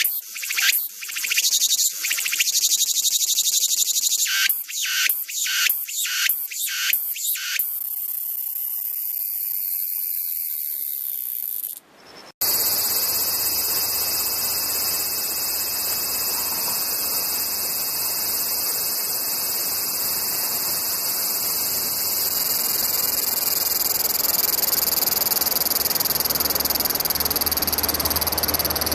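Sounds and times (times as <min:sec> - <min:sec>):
cicadas buzzing: 0:00.0 - 0:28.9
shrill cicada song: 0:00.0 - 0:28.9.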